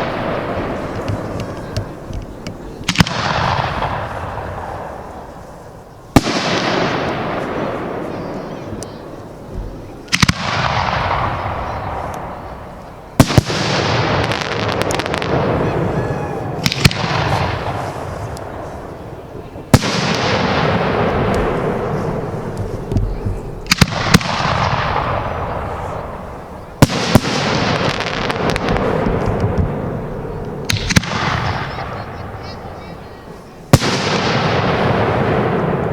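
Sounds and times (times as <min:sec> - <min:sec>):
firework bangs: 0:00.0 - 0:35.9.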